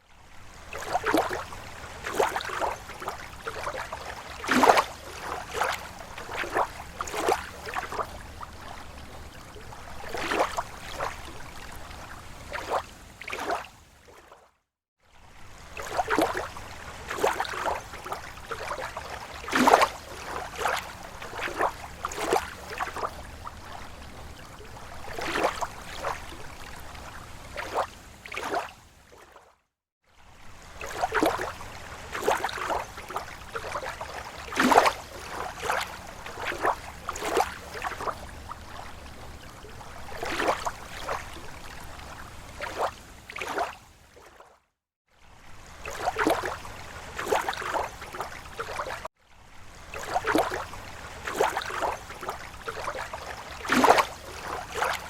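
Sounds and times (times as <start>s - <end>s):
waves lapping at shore: 0.0s - 55.0s.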